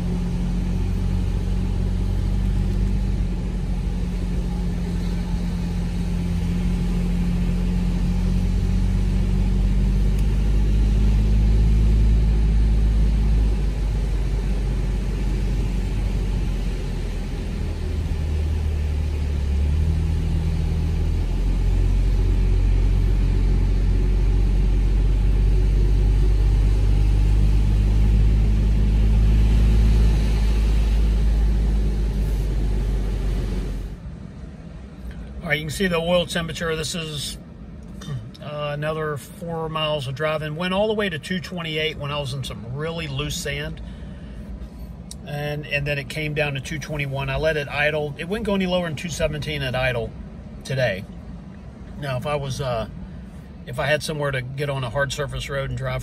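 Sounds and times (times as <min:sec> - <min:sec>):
engine droning under load: 0:00.0 - 0:56.0.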